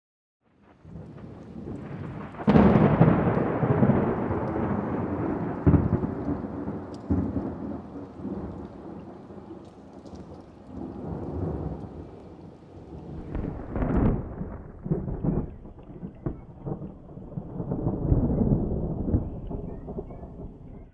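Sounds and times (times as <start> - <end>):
steady rain: 0.5 - 20.9
thunder clap and rumbles: 0.6 - 20.9.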